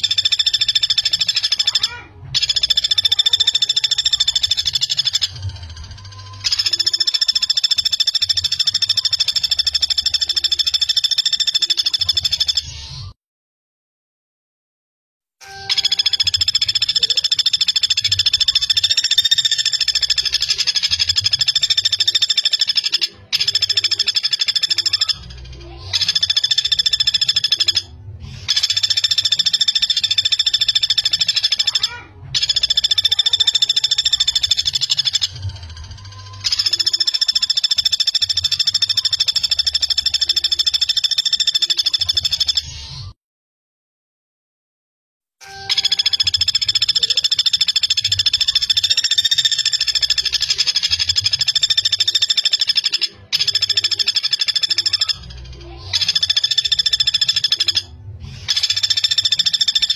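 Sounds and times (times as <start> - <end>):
woodpecker rattling call: 0.0 - 12.7, 15.4 - 42.7, 45.4 - 57.9, 58.5 - 59.9.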